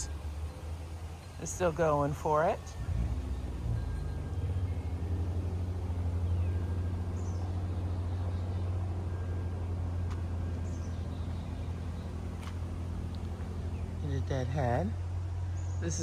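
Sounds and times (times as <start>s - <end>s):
faint high bird chirps: 0.0s - 14.4s.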